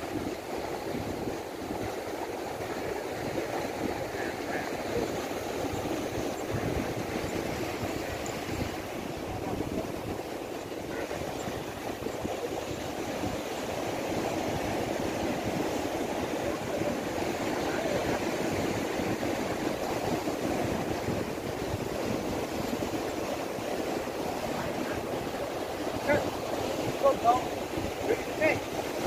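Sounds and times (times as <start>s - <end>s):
sea surf washing against rocks: 0.0s - 29.0s.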